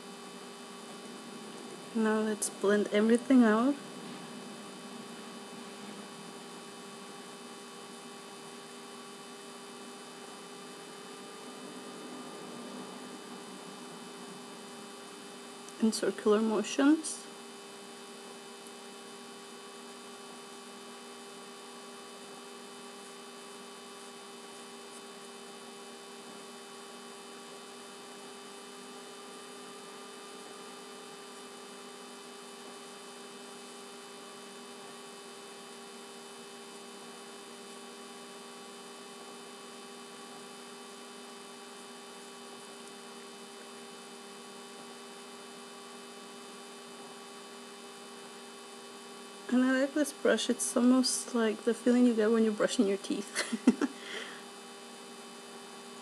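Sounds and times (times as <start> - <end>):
constant hiss: 0.0 - 56.0
electrical hum: 0.0 - 56.0.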